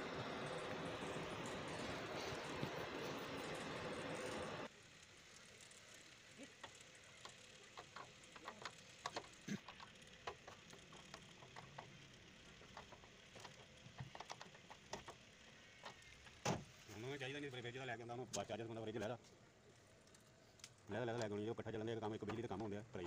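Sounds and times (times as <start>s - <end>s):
quiet hiss: 0.0s - 23.0s.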